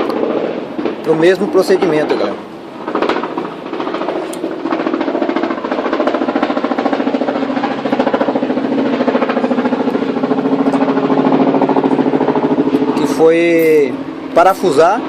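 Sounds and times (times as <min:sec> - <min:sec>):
engine running with rapid pulse: 0:00.0 - 0:15.0.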